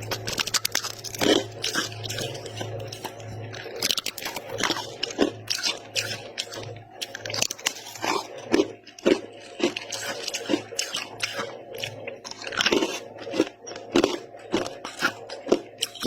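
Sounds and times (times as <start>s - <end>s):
chewing crunchy frost: 0.0s - 16.0s.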